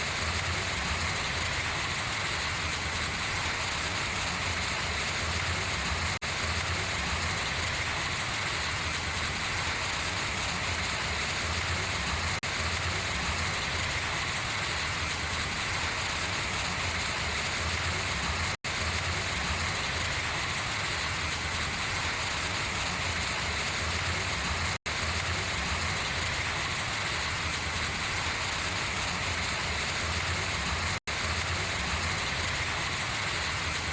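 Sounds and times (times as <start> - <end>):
water running off leaves: 0.0 - 33.9
rain pattering on leaves: 0.1 - 33.9.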